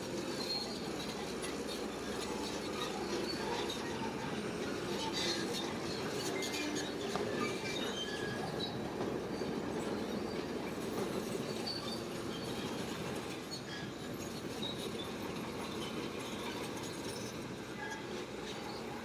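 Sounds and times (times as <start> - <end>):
bulldozer engine and tracks rumbling: 0.0 - 19.0
track running gear squeaks: 0.0 - 19.0.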